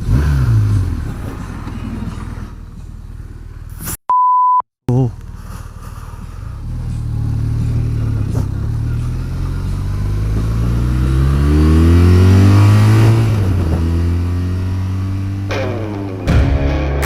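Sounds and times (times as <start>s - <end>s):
motorcycle engine accelerating: 0.0s - 3.8s, 6.4s - 17.0s.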